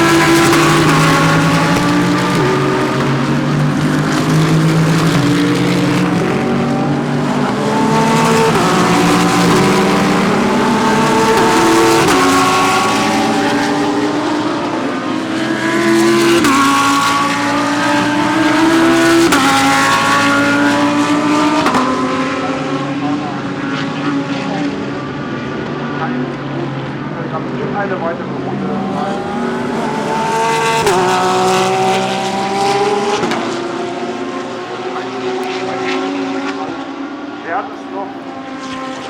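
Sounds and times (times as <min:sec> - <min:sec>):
race cars accelerating: 0:00.0 - 0:39.0.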